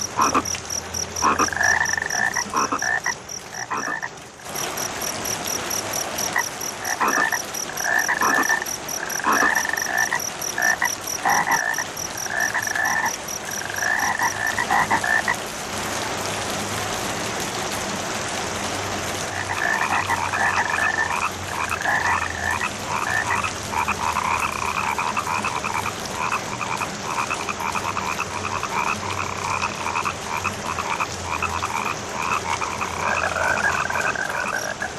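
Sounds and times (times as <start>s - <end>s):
frogs croaking: 0.0s - 15.4s, 19.3s - 34.9s
rain hiss: 0.0s - 34.9s.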